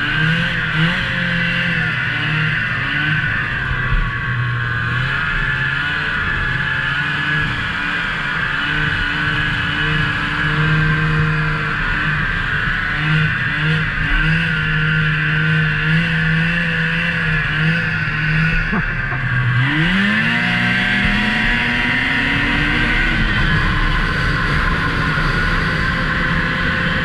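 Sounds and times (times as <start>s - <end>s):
rush of track and wind: 0.0s - 27.0s
snowmobile engine running: 0.0s - 27.0s.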